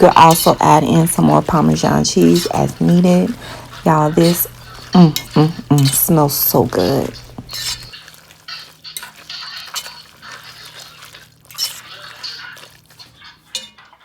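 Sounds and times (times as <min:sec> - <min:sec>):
pasta stirred in wet sauce: 0:00.0 - 0:14.0
utensil scraping and clinking a pan: 0:00.0 - 0:14.0.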